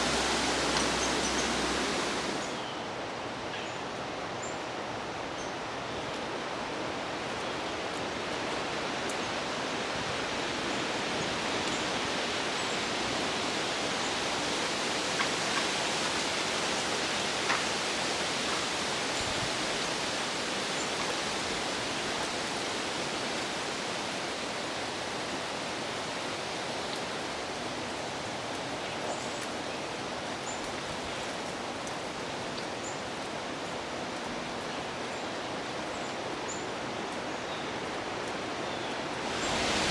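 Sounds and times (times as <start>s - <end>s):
wind rushing through trees: 0.0s - 39.9s.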